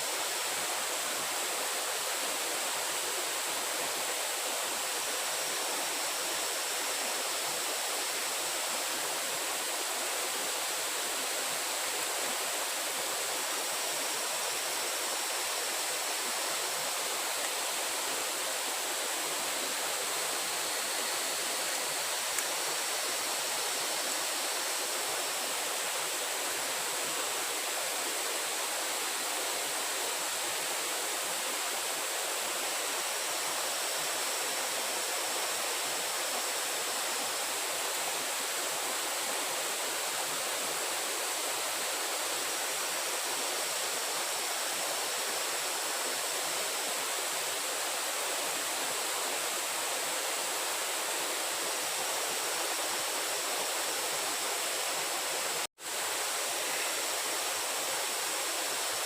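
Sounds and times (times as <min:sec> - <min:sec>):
faint high-pitched whine: 0:00.0 - 0:59.0
running water rushing: 0:00.0 - 0:59.0.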